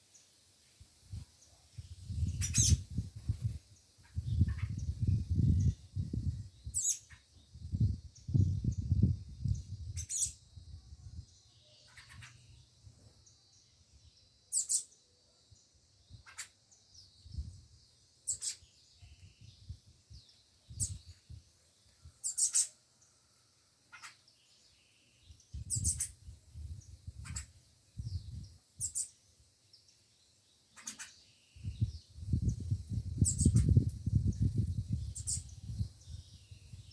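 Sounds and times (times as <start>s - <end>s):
small birds chirping: 1.1s - 36.9s.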